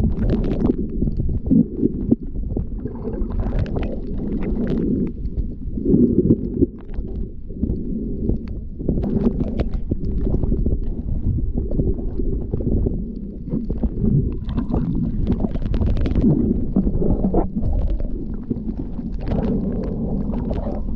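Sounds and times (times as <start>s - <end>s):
faint clicks and crackles: 0.0s - 20.9s
muffled underwater water rumble: 0.0s - 20.9s.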